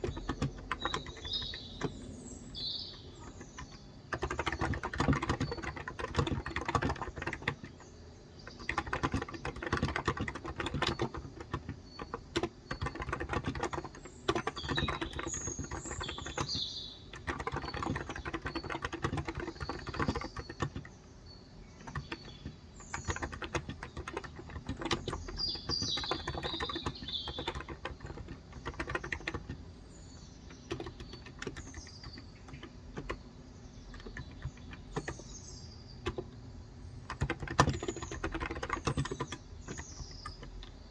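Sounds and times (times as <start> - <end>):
birds chirping: 0.0 - 40.9
soft keyboard typing: 0.0 - 40.9.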